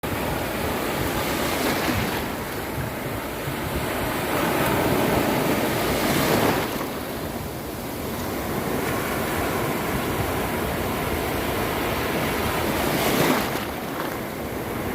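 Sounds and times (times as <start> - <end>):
wind rumble on microphone: 0.0 - 14.9
ocean waves breaking: 0.1 - 14.9.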